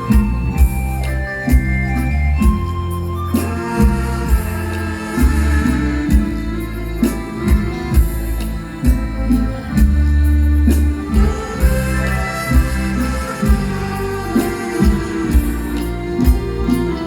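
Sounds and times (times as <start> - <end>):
heavy bass line: 0.0 - 17.0
steady drum beat: 0.0 - 17.0
sustained melody tones: 0.0 - 17.0.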